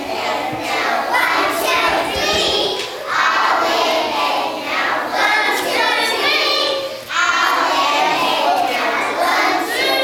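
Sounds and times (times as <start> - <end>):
children singing together: 0.0 - 10.0.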